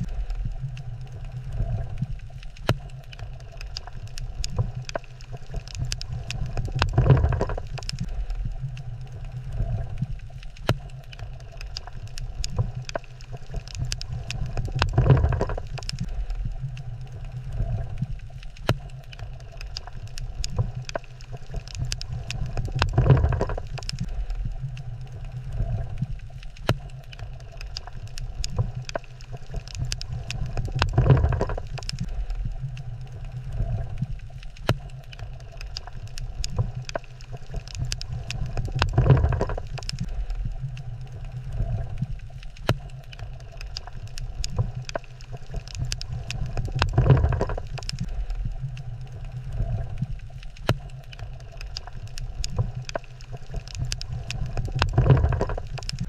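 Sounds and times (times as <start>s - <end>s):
crackle of sharp clicks: 0.0s - 56.0s
low underwater rumble: 0.0s - 56.0s.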